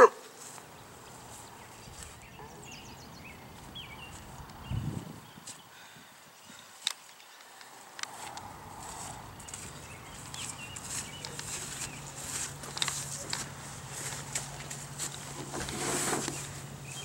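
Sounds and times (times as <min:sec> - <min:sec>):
footsteps rustling through grass: 0:00.0 - 0:05.7, 0:07.1 - 0:17.0
birds chirping faintly: 0:00.0 - 0:17.0.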